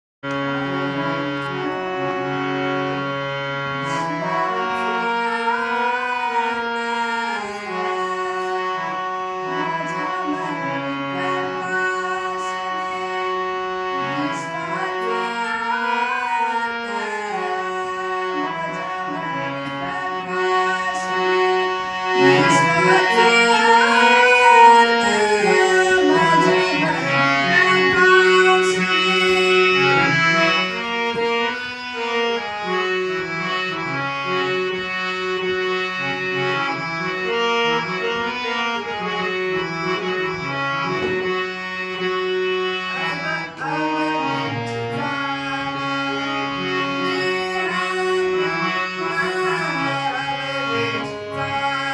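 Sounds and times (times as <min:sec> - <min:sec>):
harmonium melody: 0:00.2 - 0:51.9.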